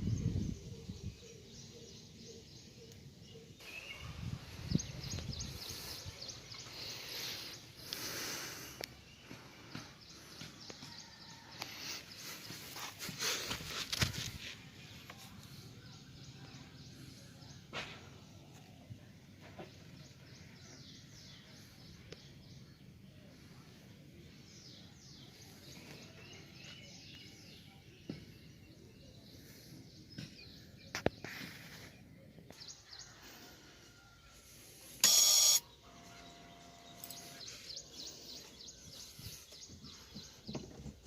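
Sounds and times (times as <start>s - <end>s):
birds chirping: 0.0s - 18.0s, 18.6s - 41.0s.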